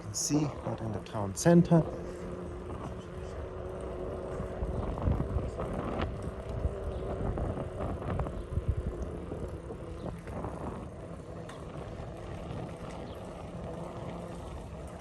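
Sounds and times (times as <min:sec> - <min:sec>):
bicycle knocks and rattles: 0:00.0 - 0:15.0
bicycle tyre rumble: 0:00.0 - 0:15.0
wind on microphone: 0:01.8 - 0:15.0.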